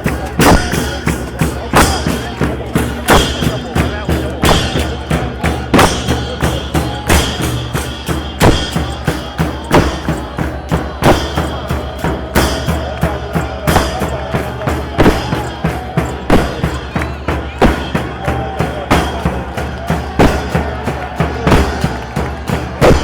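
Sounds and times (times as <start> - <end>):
drums playing a driving beat: 0.0 - 23.0.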